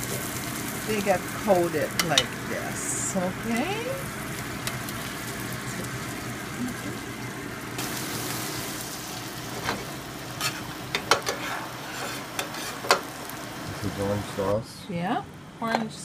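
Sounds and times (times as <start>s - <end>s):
butter sizzling in a skillet: 0.0s - 14.6s.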